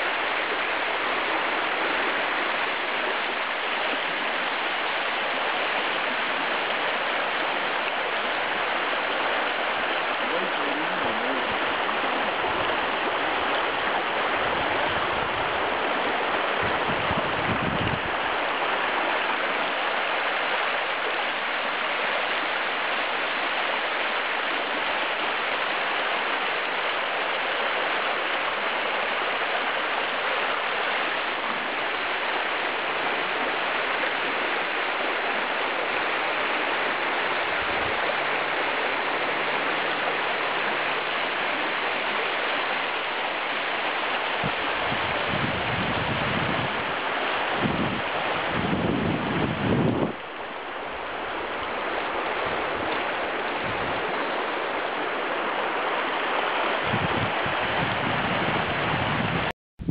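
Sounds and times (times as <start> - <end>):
water rushing over stones: 0.0 - 59.9.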